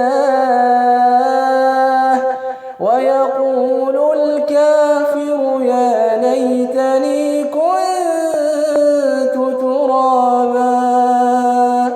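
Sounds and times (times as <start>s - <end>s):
man reciting melodically: 0.0s - 11.9s.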